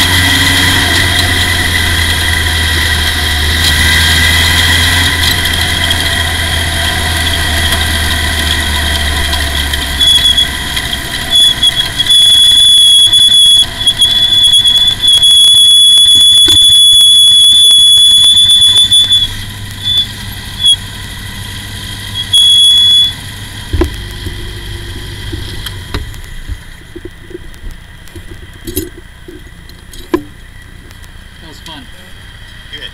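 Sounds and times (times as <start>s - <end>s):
high-pitched squeal: 0.0s - 32.9s
race car engine running low: 0.0s - 32.9s.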